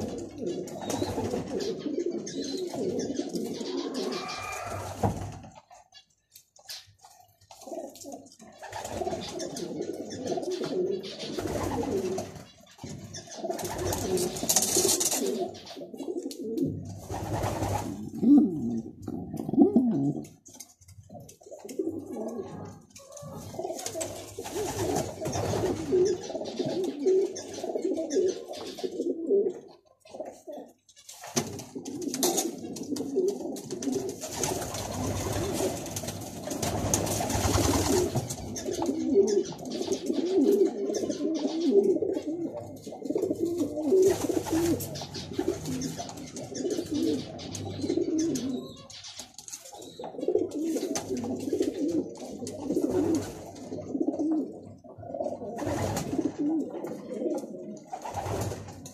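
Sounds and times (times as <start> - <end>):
pigeon cooing: 0.0 - 5.7, 7.6 - 12.4, 13.3 - 20.5, 21.2 - 30.8, 37.2 - 58.5.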